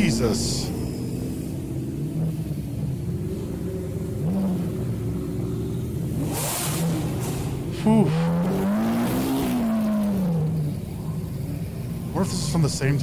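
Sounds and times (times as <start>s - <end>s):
engine rev blip: 0.0s - 10.9s
car engine at low revs: 0.0s - 13.0s.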